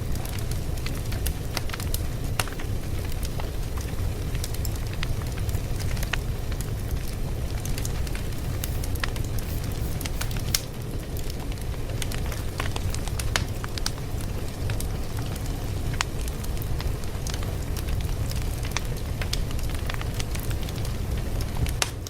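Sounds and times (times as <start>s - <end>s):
fire crackling: 0.0s - 22.0s
fire popping and snapping: 0.0s - 22.0s.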